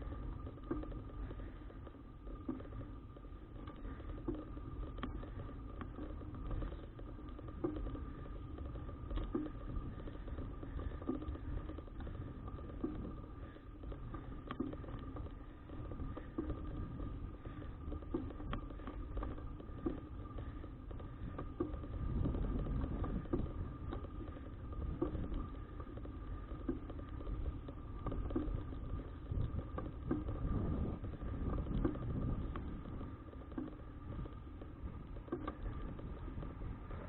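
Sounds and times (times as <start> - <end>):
bike rattles and ticks: 0.0 - 37.0
faint steady whine: 0.0 - 37.0
wind buffeting microphone: 5.1 - 37.0.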